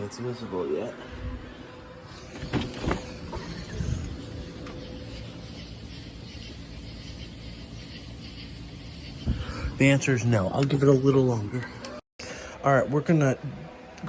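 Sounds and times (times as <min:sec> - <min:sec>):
outdoor air rumble and hiss: 0:00.0 - 0:14.0.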